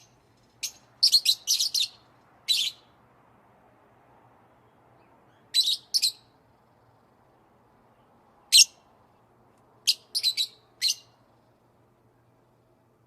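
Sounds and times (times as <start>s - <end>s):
songbird chirping: 0.0s - 3.0s, 4.1s - 13.0s.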